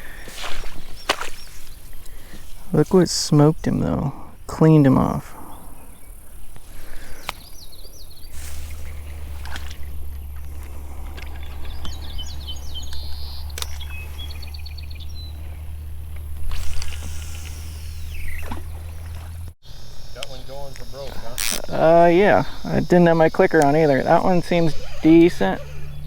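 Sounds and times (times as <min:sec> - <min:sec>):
birds chirping in trills: 0:00.0 - 0:26.0
steady low hum: 0:00.0 - 0:26.0.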